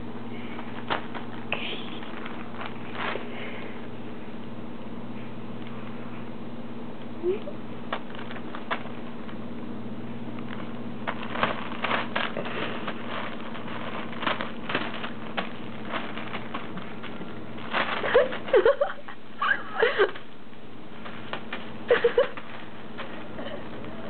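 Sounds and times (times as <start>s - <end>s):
plastic sheeting crinkling: 0.3s - 4.1s, 7.3s - 24.0s.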